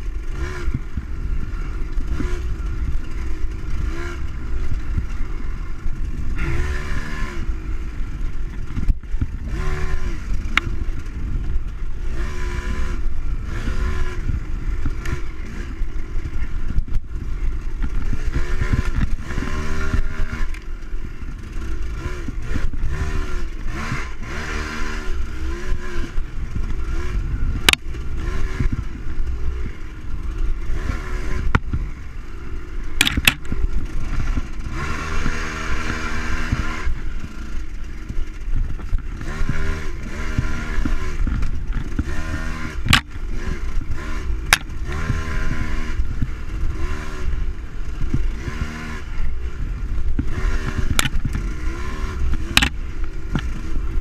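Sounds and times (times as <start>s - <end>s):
bike rattling and clatter: 0.0s - 54.0s
dirt bike engine revving: 0.0s - 54.0s.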